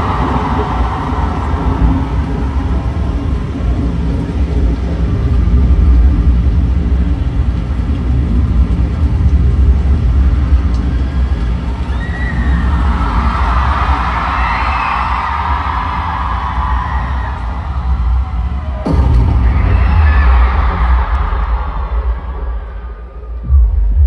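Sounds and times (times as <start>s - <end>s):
crowd screaming and cheering: 0.0s - 9.0s, 9.7s - 24.0s
loud deep rumble from speakers: 0.0s - 24.0s.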